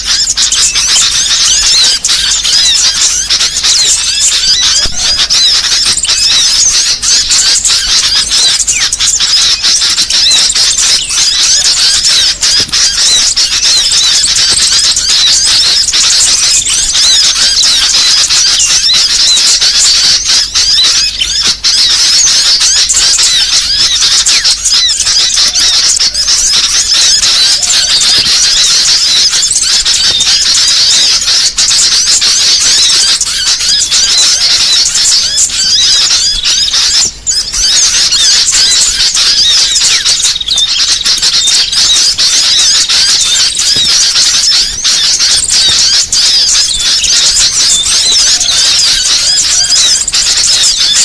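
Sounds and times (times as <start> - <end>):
small songbirds chattering: 0.0 - 51.0.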